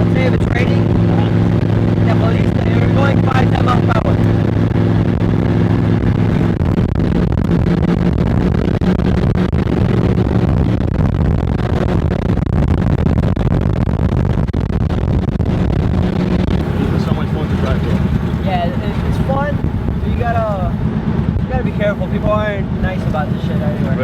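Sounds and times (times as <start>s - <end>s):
car engine cruising: 0.0s - 24.0s
road noise: 0.0s - 24.0s.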